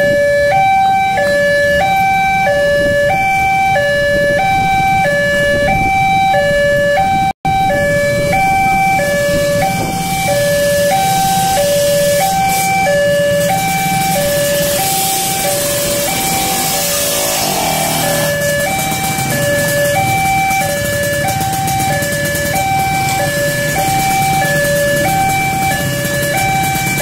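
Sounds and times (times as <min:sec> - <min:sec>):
two-tone crossing alarm: 0:00.0 - 0:27.0.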